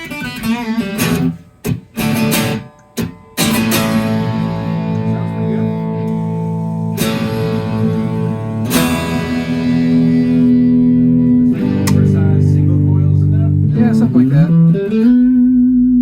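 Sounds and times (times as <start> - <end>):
electric guitar chords strummed: 0.0 - 16.0.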